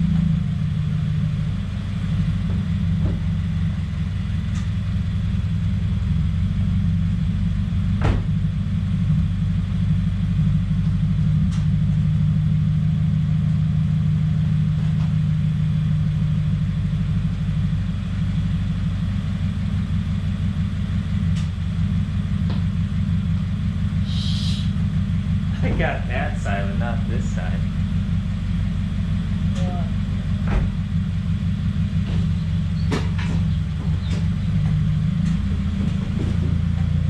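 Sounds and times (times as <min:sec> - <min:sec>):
car engine idling roughly: 0:00.0 - 0:37.0.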